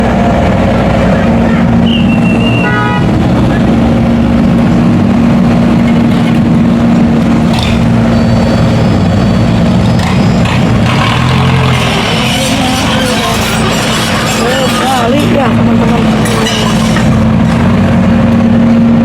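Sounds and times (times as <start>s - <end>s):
large engine humming: 0.0s - 19.0s.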